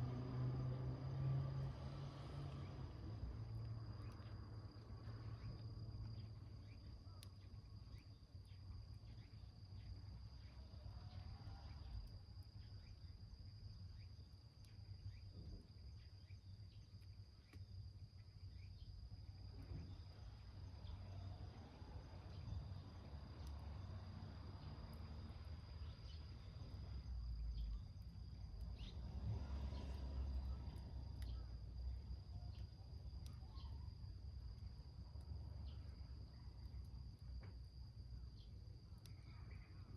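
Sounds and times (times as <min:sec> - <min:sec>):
low fire rumble: 0:00.0 - 0:39.9.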